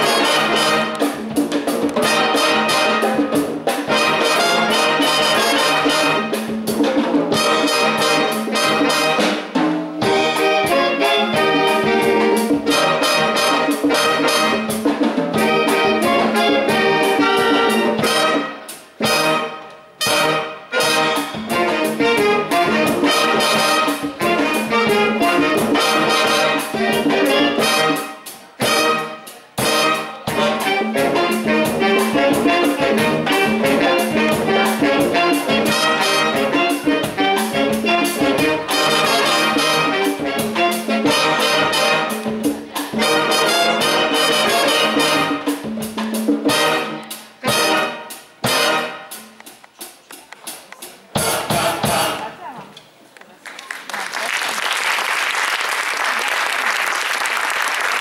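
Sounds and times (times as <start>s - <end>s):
wind band playing: 0.0s - 49.5s, 51.1s - 52.6s.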